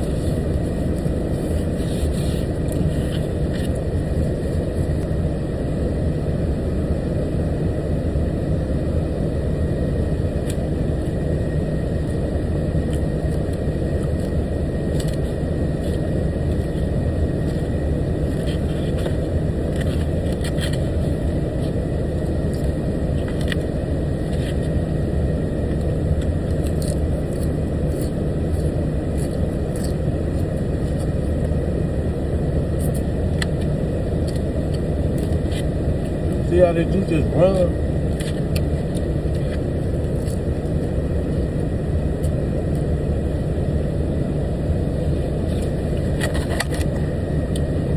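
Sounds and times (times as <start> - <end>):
engine and road noise inside vehicle: 0.0 - 47.9.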